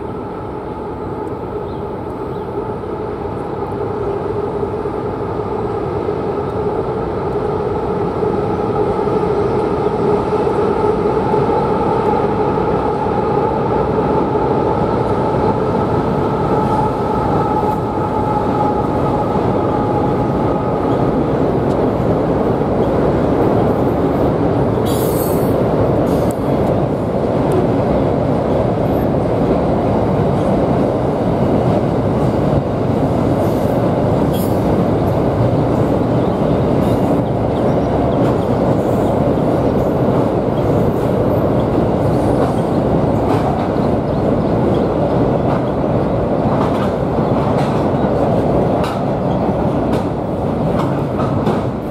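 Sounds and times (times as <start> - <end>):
train rumbling over bridge: 0.0 - 51.9.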